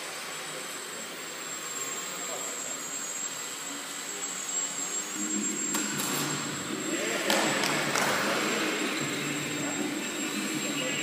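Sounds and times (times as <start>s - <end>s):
model airplane propellers buzzing: 0.0s - 11.0s.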